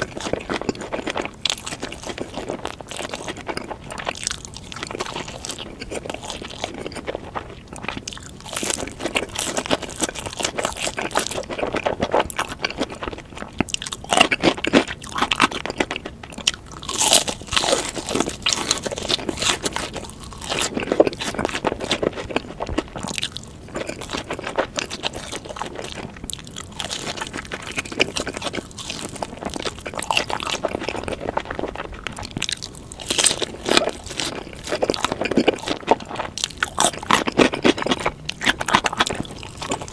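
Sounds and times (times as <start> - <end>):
crunching and chewing fried chicken: 0.0 - 39.9.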